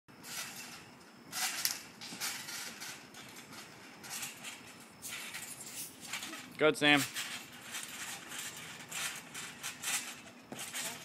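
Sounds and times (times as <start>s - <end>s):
trampoline springs rattling and creaking: 0.2s - 11.0s.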